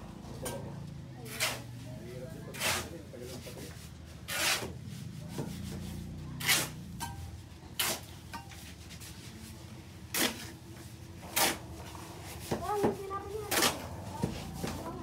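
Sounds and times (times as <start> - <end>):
scraping on a hard surface: 0.3 - 15.0.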